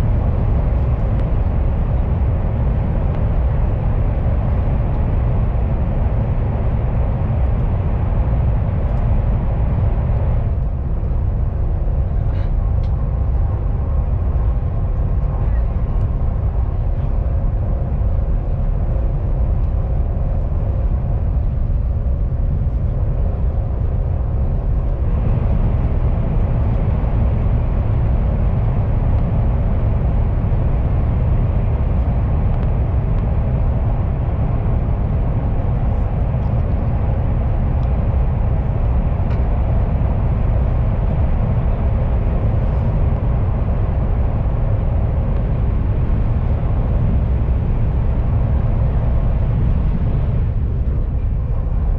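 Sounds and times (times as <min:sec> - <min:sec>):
train cabin low rumble: 0:00.0 - 0:51.9.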